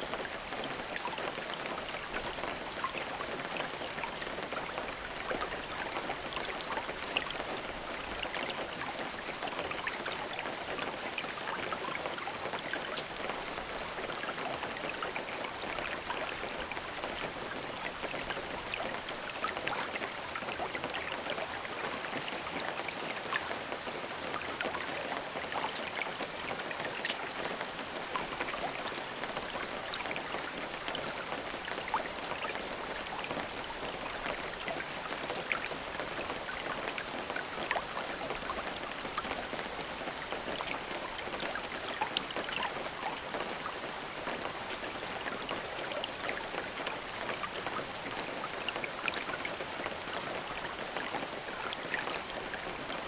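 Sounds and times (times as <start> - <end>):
raindrops ticking on a surface: 0.0 - 53.0
steady rain falling: 0.0 - 53.0.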